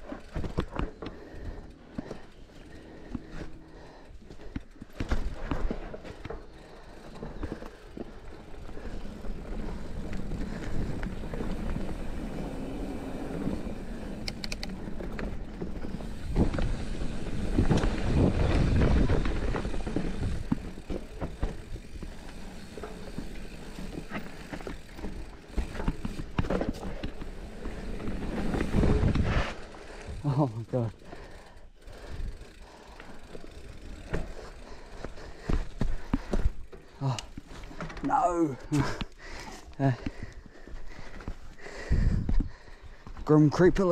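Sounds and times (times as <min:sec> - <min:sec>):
bike rattling and knocking: 0:00.0 - 0:43.9
tyres crunching over loose dirt: 0:00.0 - 0:43.9.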